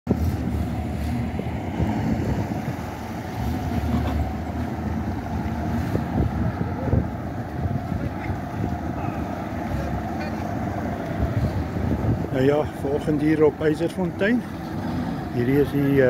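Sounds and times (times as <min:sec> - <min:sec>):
outboard motor churning water: 0:00.1 - 0:16.0
pickup truck engine: 0:00.1 - 0:16.0
wind buffeting microphone: 0:00.1 - 0:16.0.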